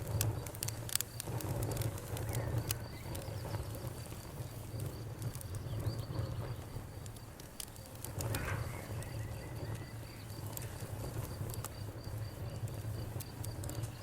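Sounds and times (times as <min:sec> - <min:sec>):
bonfire crackling with pops: 0:00.0 - 0:14.0
crickets chirping: 0:00.0 - 0:14.0.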